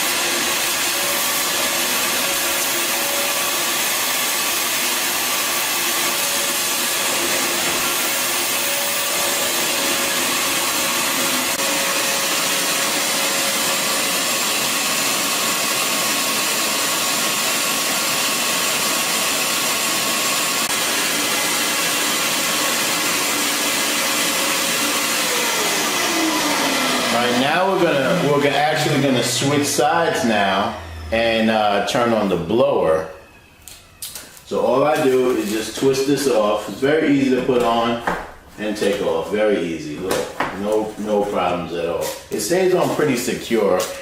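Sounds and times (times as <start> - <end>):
vacuum motor running: 0.0 - 37.8.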